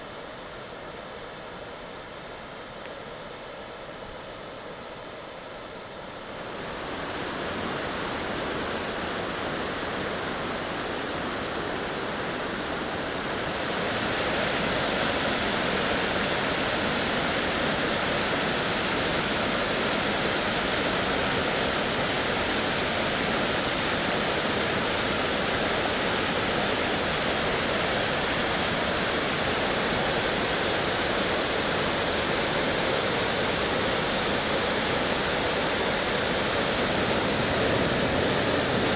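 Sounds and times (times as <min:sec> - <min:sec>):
waterfall rushing: 0:06.3 - 0:38.9.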